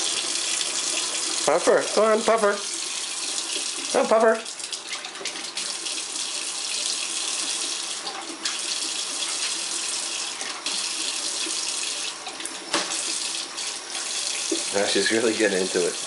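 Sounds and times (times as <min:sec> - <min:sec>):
faucet running into metal sink: 0:00.0 - 0:16.0.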